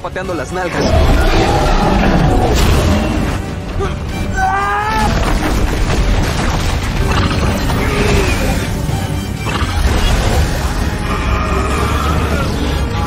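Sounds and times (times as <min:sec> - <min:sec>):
dramatic orchestral score: 0:00.0 - 0:13.0.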